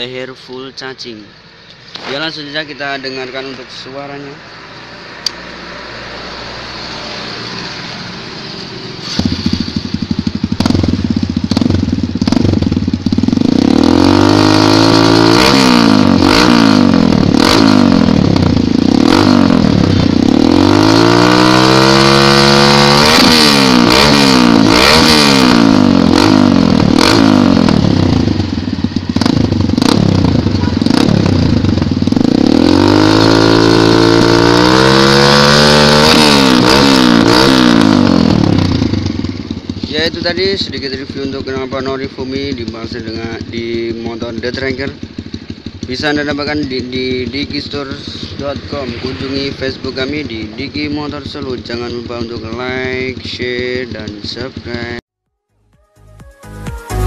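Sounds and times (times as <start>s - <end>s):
motorcycle engine idling and revving: 0.0s - 55.2s.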